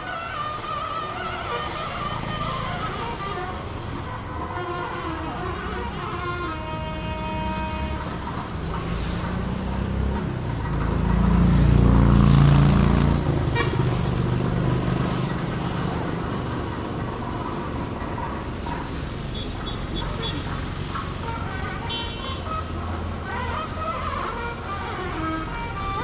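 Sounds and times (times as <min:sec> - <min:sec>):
vehicle engine passing: 0:00.8 - 0:26.0.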